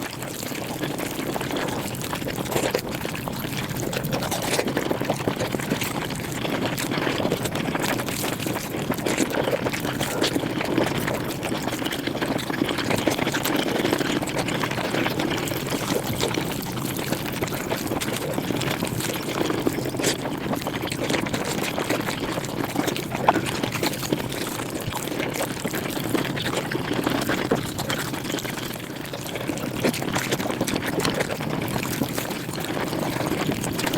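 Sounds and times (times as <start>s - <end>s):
sped-up chewing and mouth noises: 0.0s - 33.9s.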